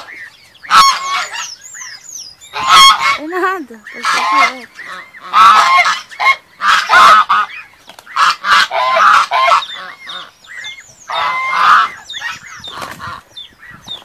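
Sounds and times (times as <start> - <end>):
geese honking: 0.0 - 13.9.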